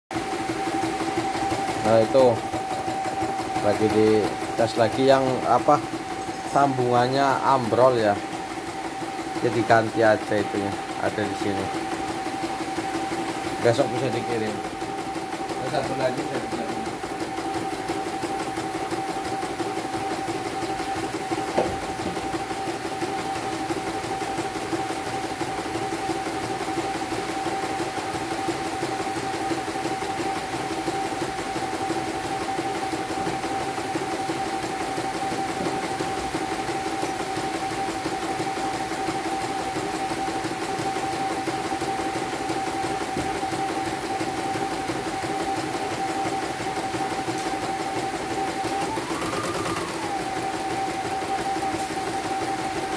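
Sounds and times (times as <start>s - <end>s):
embroidery machine stitching: 0.2s - 52.9s.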